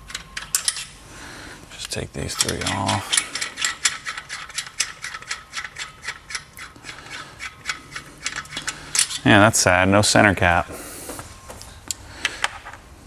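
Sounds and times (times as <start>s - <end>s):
hand ratchet clicking: 0.0s - 1.0s, 1.6s - 12.8s.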